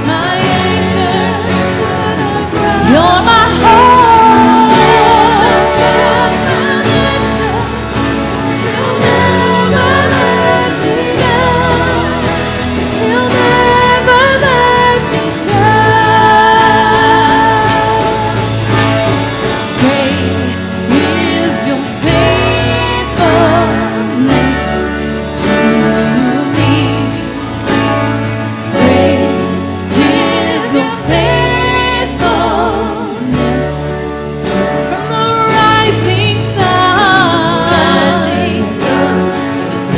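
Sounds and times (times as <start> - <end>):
band playing: 0.0 - 39.9
repeating bass: 0.0 - 39.9
voices singing: 0.0 - 39.9.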